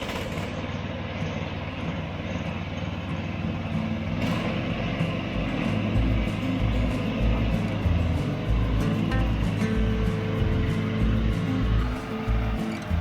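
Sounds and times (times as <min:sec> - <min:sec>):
ride-on lawn mower engine running: 0:00.0 - 0:13.0.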